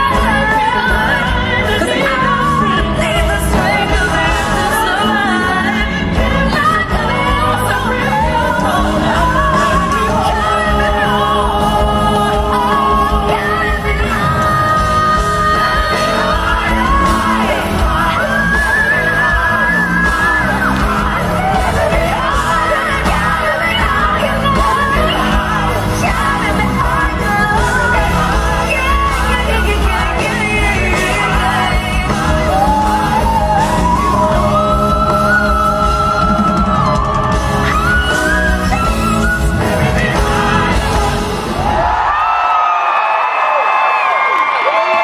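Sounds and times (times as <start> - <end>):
woman singing slow ballad: 0.0 - 40.9
full band with strong bass: 0.0 - 45.0.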